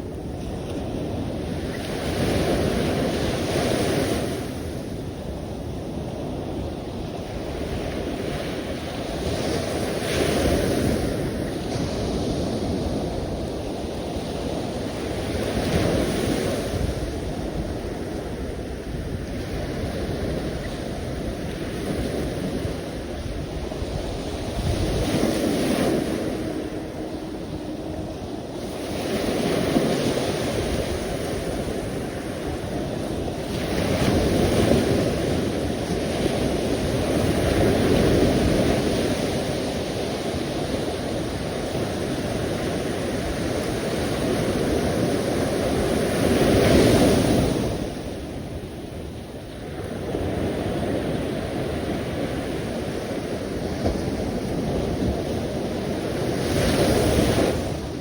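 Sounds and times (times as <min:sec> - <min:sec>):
sea waves rushing: 0:00.0 - 0:58.0.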